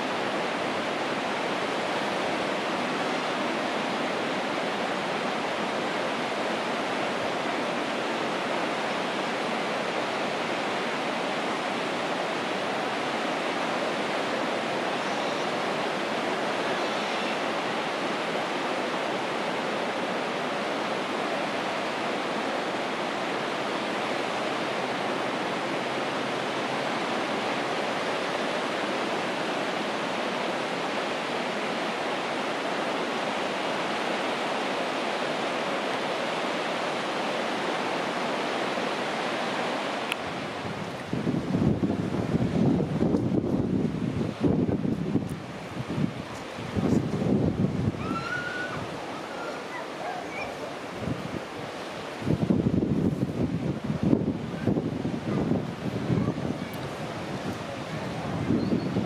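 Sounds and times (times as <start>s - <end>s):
sea surf washing on beach: 0.0s - 59.0s.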